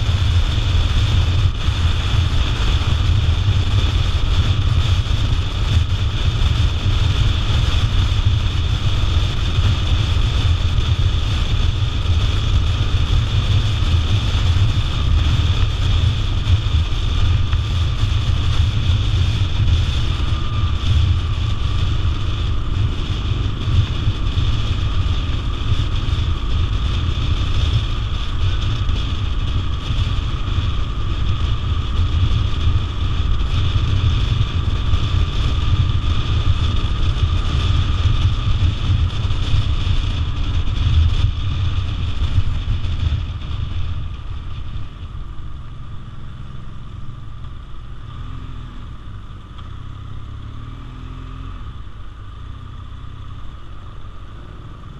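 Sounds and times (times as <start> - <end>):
wind buffeting microphone: 0.0 - 45.9
motorcycle engine droning: 0.0 - 54.9.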